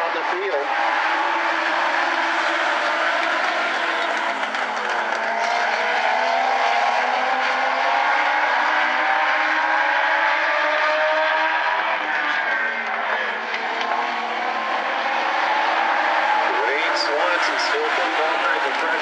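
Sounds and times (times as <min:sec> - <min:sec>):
race cars high-revving engines: 0:00.0 - 0:19.0.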